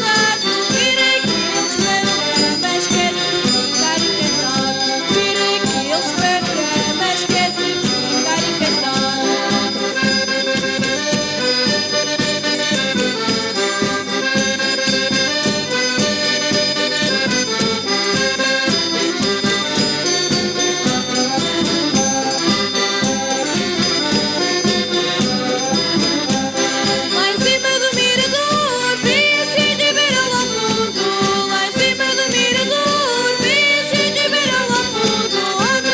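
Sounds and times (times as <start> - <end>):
lively folk dance music: 0.0 - 35.9.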